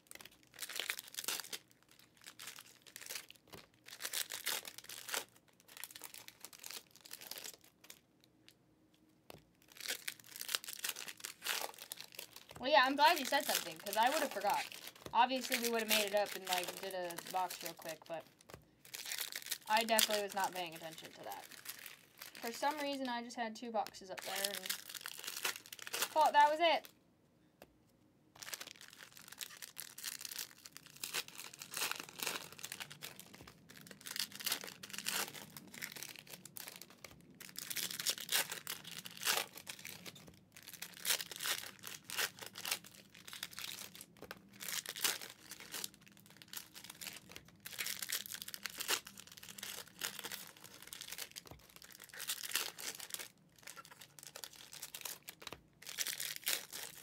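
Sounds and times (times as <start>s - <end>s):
card wrappers tearing and crinkling: 0.0s - 8.0s, 9.4s - 26.9s, 28.4s - 57.0s.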